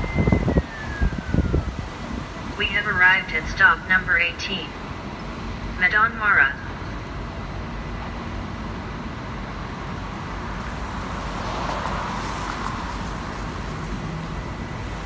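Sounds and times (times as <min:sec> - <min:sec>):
bus engine rumble: 0:00.0 - 0:15.0
city traffic: 0:00.0 - 0:15.0
noisy hiss: 0:00.0 - 0:15.0.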